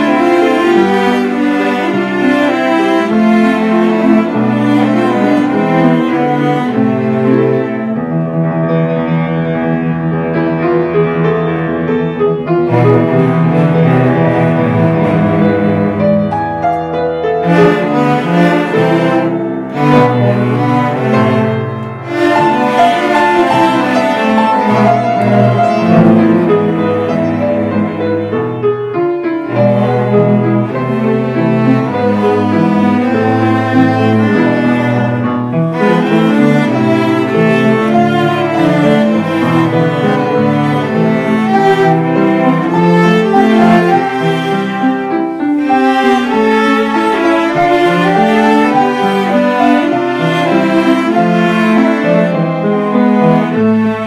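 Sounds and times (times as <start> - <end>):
cellos bowing sustained notes: 0.0 - 54.0
piano accompaniment: 0.0 - 54.0.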